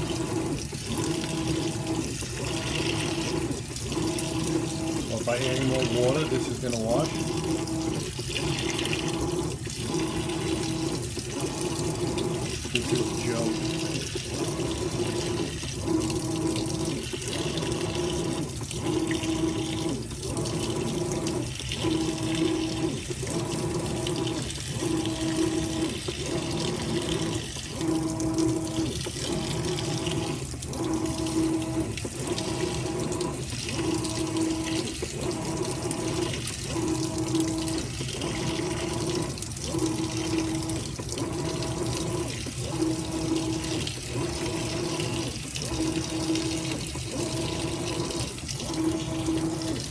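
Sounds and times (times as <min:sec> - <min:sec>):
washer motor hum: 0:00.0 - 0:49.9
water pouring into washer tub: 0:00.0 - 0:49.9.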